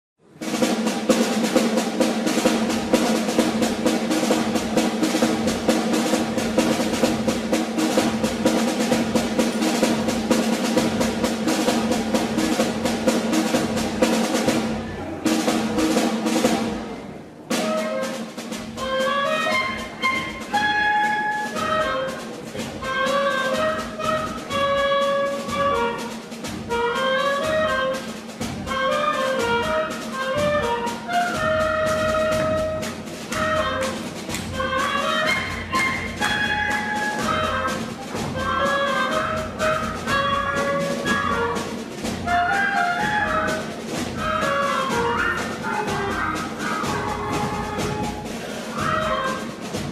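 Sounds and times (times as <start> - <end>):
brass melody over drum beat: 0.2 - 49.9
drum roll: 0.2 - 49.9.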